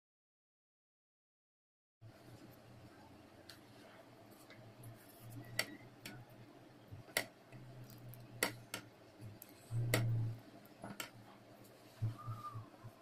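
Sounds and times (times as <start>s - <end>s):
faint low hum: 2.0s - 13.0s.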